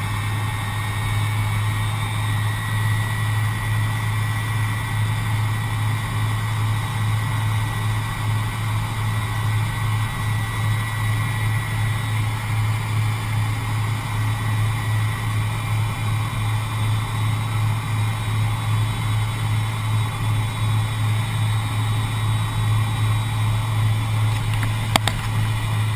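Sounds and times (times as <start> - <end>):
jet engines droning: 0.0 - 25.9.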